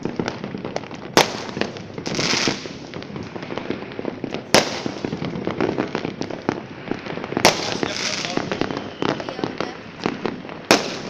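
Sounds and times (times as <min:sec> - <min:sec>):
firecrackers crackling: 0:00.0 - 0:11.0
loud firework bang: 0:00.0 - 0:11.0
firework hissing rush: 0:01.2 - 0:11.0.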